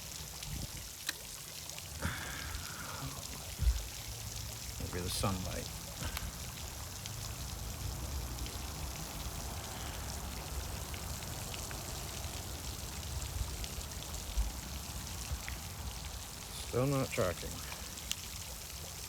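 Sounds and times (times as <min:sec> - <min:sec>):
water washing: 0:00.0 - 0:19.0.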